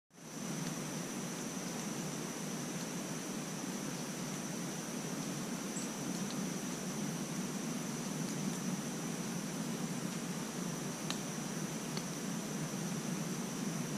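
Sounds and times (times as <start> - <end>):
even hiss: 0.2 - 13.9.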